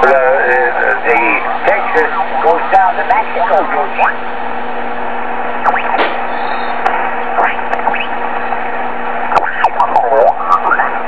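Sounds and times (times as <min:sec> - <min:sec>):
faint garbled radio voices: 0:00.0 - 0:11.0
low hum: 0:00.0 - 0:11.0
radio static hiss: 0:00.0 - 0:11.0.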